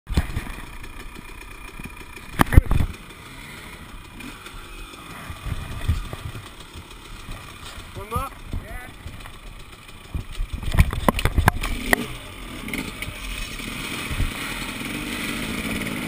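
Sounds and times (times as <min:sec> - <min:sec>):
dirt bike engines idling: 0:00.1 - 0:16.0.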